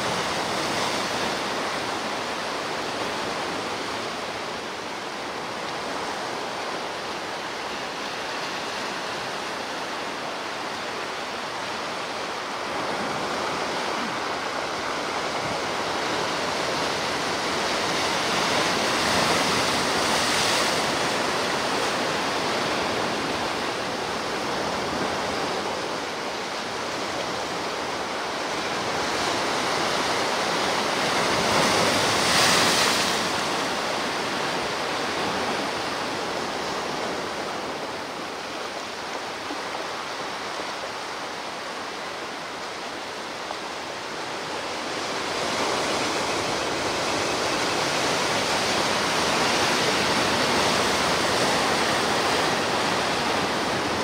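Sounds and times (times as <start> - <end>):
ocean surf washing on shore: 0.0 - 54.0.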